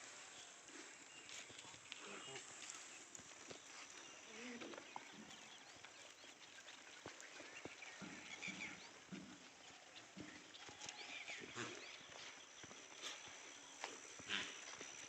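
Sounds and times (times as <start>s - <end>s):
goat hooves tapping and shuffling: 0.0s - 15.0s.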